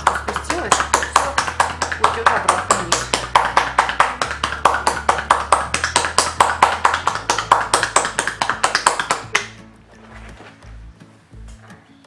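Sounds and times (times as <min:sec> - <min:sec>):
hand tapping on a back: 0:00.0 - 0:10.8
background music: 0:00.0 - 0:12.0.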